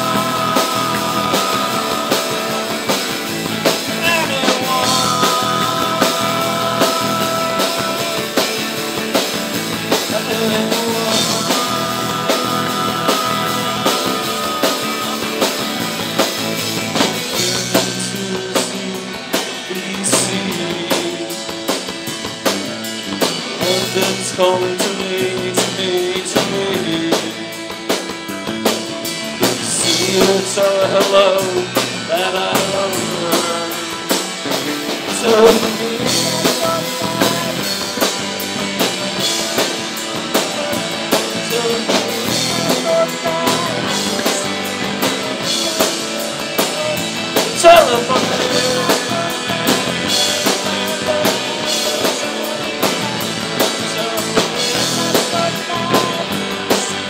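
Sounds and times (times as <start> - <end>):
person singing: 0.0 - 22.0, 23.5 - 27.8, 29.4 - 57.0
drum kit: 0.0 - 57.0
electric bass: 0.0 - 57.0
electric guitar: 0.0 - 57.0.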